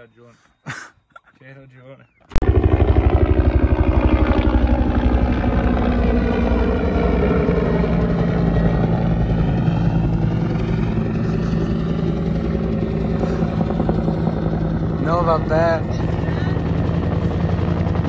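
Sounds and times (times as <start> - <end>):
helicopter flying overhead: 2.2 - 18.0.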